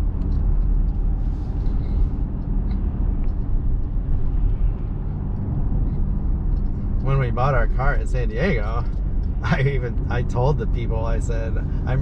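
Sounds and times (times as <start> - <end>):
engine and tyre rumble in cabin: 0.0 - 12.0.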